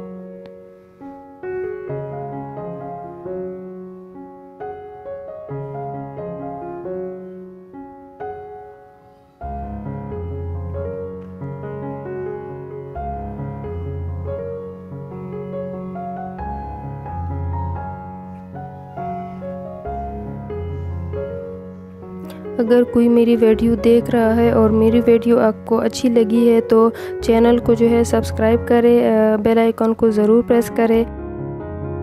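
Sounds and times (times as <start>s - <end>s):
piano tune: 0.0s - 32.0s.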